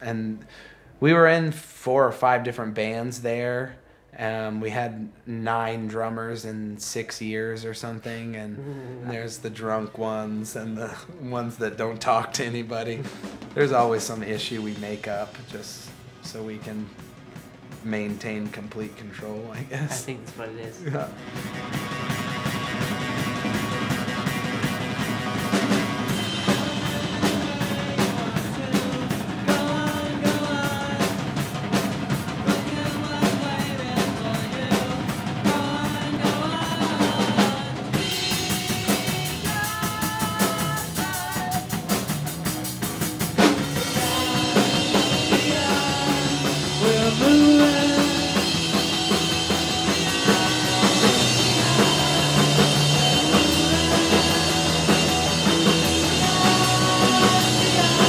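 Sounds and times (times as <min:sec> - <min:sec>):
rock music: 0:07.3 - 0:58.0.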